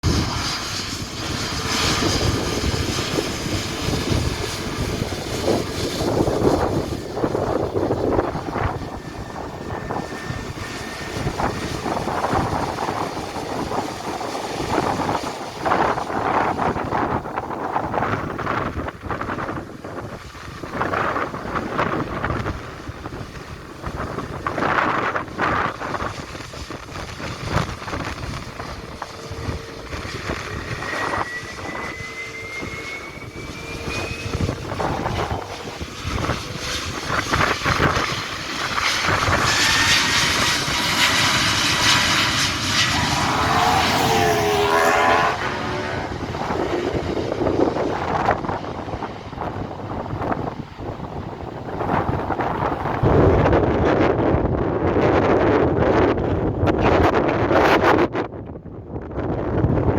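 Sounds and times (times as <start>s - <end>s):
jet engines at takeoff power: 0.0s - 59.9s
wind buffeting microphone: 0.0s - 59.9s.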